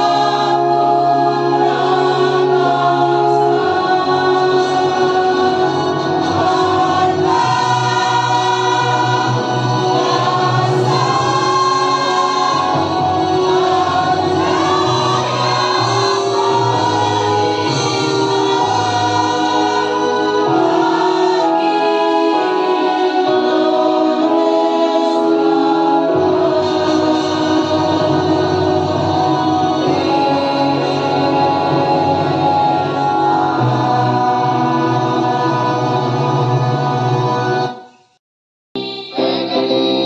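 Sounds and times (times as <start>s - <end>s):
instrumental accompaniment: 0.0s - 37.9s
choir singing held notes: 0.0s - 38.0s, 38.8s - 40.0s.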